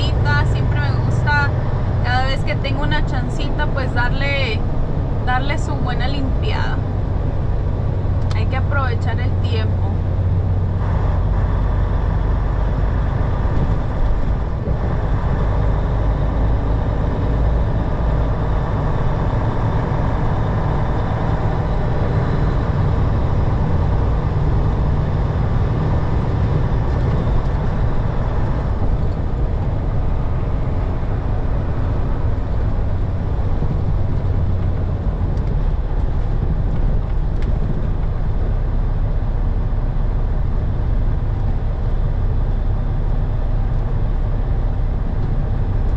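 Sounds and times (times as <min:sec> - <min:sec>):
road noise: 0:00.0 - 0:45.9
truck engine drone: 0:00.0 - 0:45.9.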